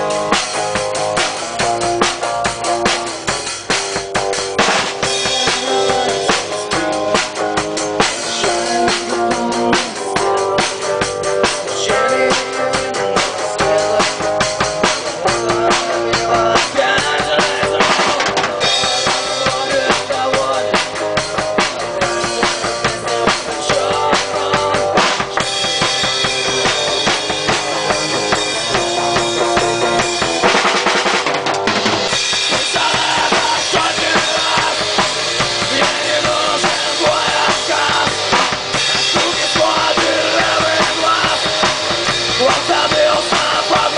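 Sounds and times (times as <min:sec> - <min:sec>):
band playing live: 0:00.0 - 0:43.9
bass drum and snare: 0:00.0 - 0:43.9.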